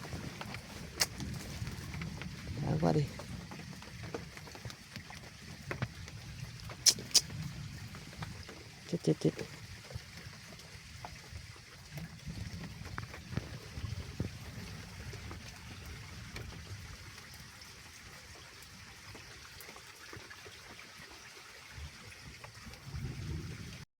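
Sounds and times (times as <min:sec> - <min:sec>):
wind rumbling on microphone: 0:00.0 - 0:19.5, 0:21.7 - 0:23.8
water running and trickling: 0:00.0 - 0:23.8.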